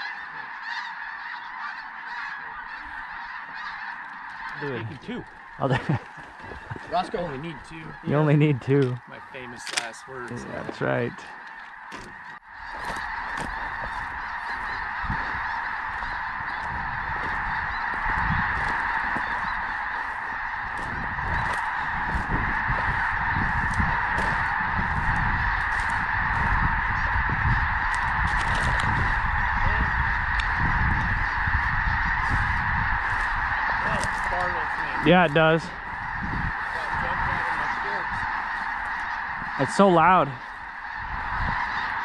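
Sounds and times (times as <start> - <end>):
geese honking: 0.0 - 42.0.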